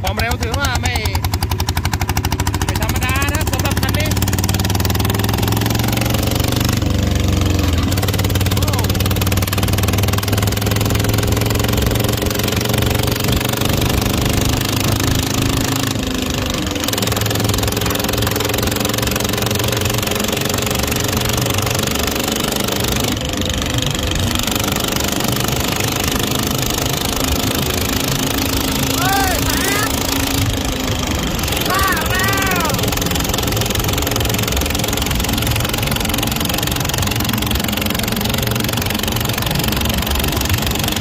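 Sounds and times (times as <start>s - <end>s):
tiller engine running: 0.0s - 41.0s
wind and road noise: 0.0s - 41.0s.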